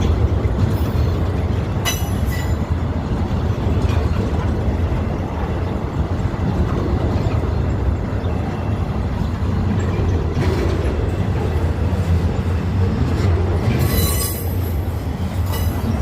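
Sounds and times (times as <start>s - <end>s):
train wheels squealing on rails: 0.0s - 6.1s, 7.1s - 16.0s
train rumbling past: 0.0s - 16.0s.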